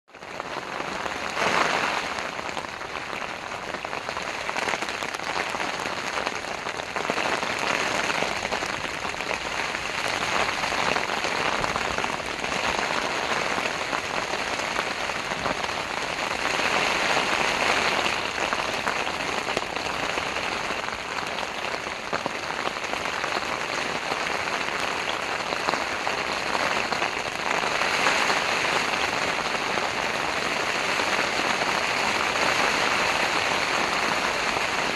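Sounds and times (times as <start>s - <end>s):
heavy rain on tent fabric: 0.0s - 34.9s.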